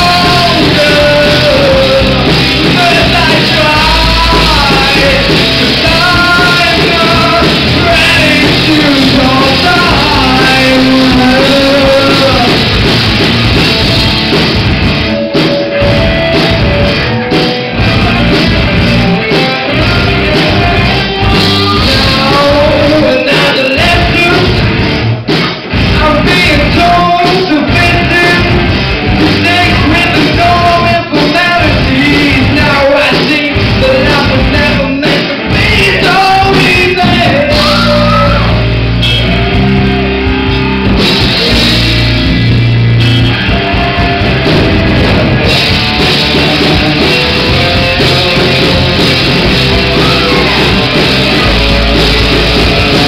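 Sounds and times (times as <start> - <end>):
person singing: 0.0 - 12.8, 15.1 - 24.7, 25.9 - 40.4, 46.6 - 53.0
live rock band playing: 0.0 - 53.0.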